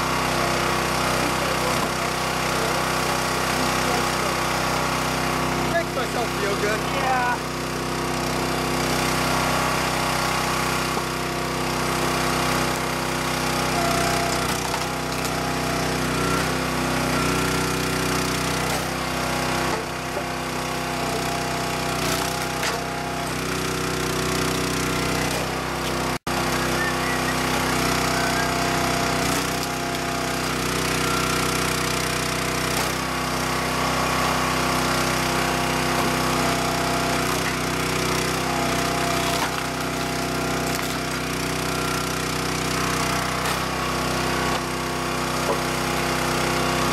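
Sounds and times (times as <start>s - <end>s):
log splitter engine running: 0.0s - 46.9s.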